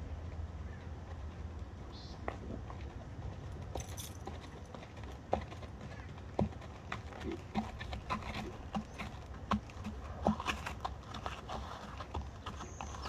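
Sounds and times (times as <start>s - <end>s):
hoofbeats on packed dirt: 0.0s - 13.0s.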